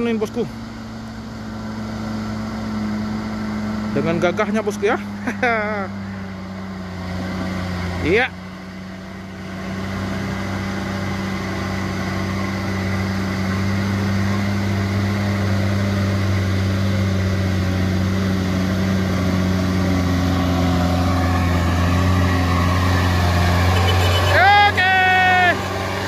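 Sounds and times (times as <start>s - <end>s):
truck diesel engine pulling uphill: 0.0s - 26.0s.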